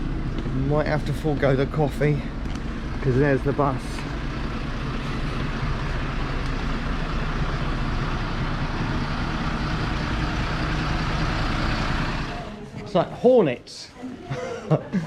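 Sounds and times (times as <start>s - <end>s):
bus engine running: 0.0s - 13.1s.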